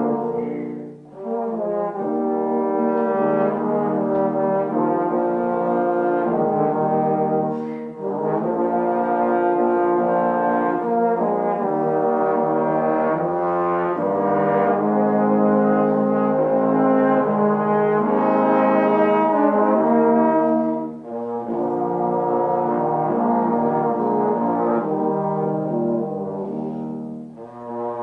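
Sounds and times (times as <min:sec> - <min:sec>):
trombone quintet playing sacred song: 0:00.0 - 0:28.0.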